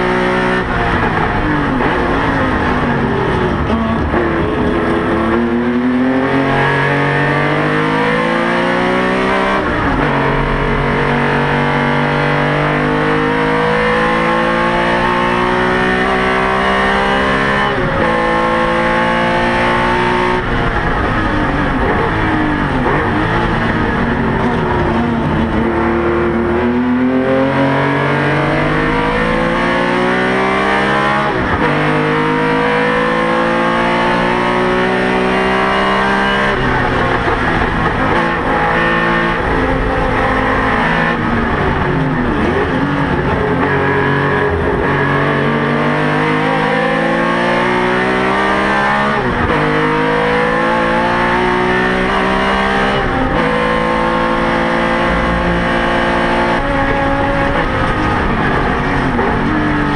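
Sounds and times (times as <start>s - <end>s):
race car engine under load: 0.0s - 59.9s.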